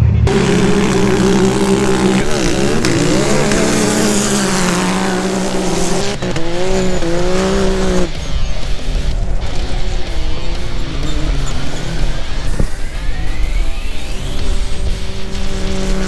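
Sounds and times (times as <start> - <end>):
race engines revving: 0.0 - 16.0
music: 2.7 - 16.0.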